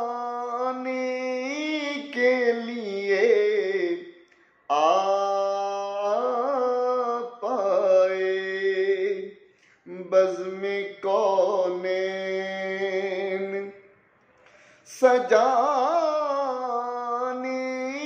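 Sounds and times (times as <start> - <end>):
man singing unaccompanied: 0.0 - 13.9, 14.9 - 18.0.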